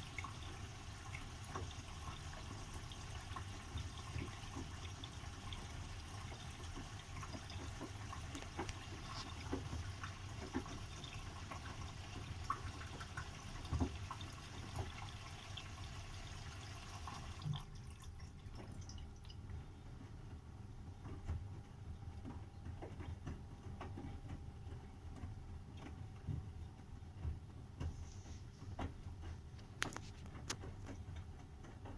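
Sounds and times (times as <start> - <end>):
washing machine low hum: 0.0 - 31.9
water splashing inside washing machine: 0.0 - 31.9.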